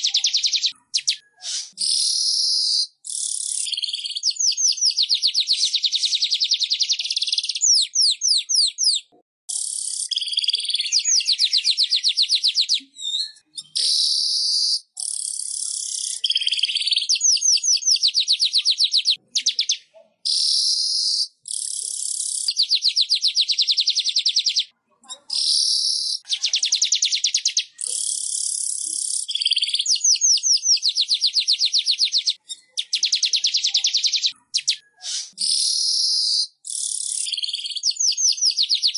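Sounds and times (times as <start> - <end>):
weaver bird buzzy song: 0.0 - 24.7, 25.4 - 38.9.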